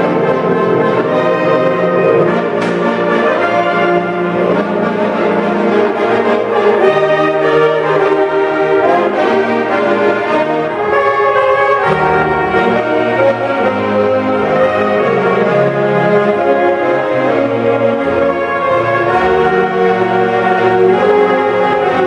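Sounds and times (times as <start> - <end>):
saxophone ensemble playing chords: 0.0 - 22.0.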